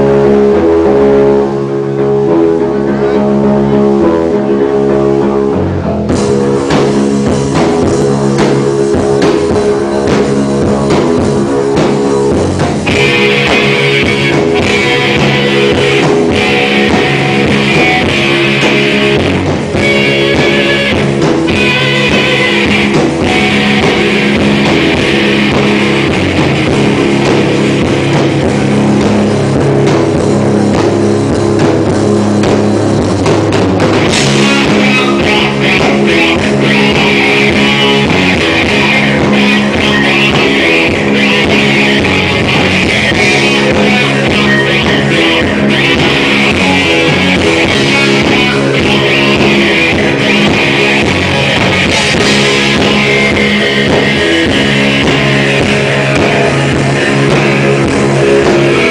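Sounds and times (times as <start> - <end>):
rock band playing live: 0.0 - 58.9.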